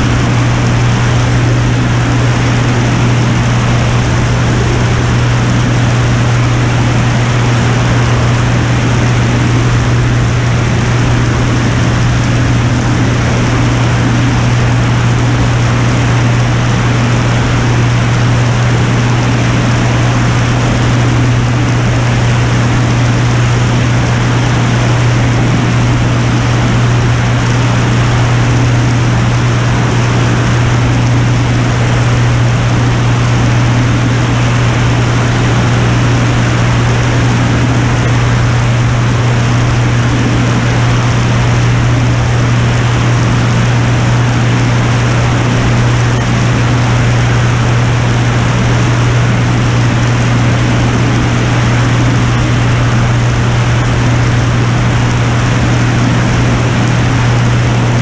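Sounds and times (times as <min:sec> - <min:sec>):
air rushing: 0:00.0 - 0:58.0
propeller plane engine drone: 0:00.0 - 0:58.0.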